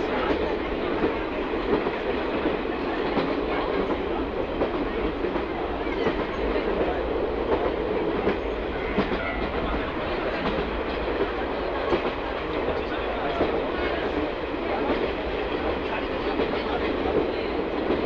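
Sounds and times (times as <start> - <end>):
rumble of wheels on rail: 0.0 - 18.0.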